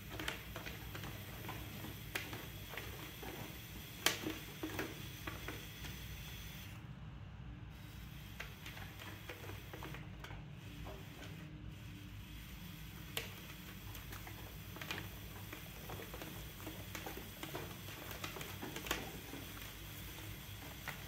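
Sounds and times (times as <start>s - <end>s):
potter's wheel humming: 0.0s - 6.9s, 7.7s - 21.0s.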